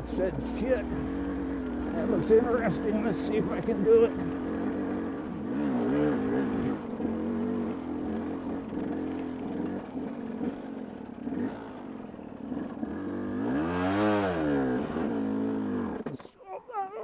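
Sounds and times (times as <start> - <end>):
dirt bike engine revving: 0.0 - 16.1.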